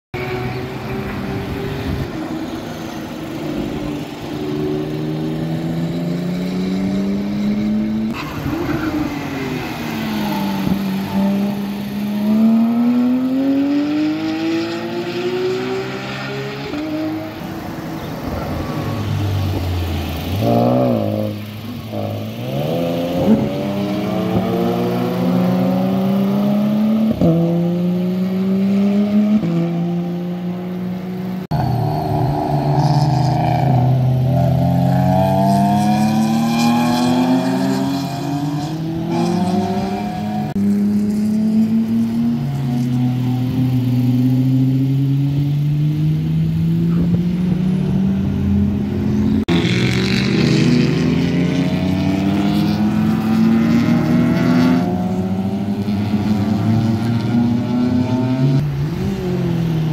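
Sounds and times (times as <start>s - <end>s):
race car engines braking and accelerating: 0.2s - 59.9s
sports car accelerating away: 3.3s - 59.9s.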